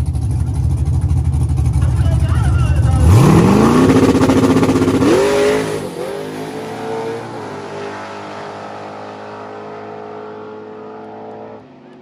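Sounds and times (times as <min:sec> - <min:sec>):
drag car engine revving: 0:00.0 - 0:12.0.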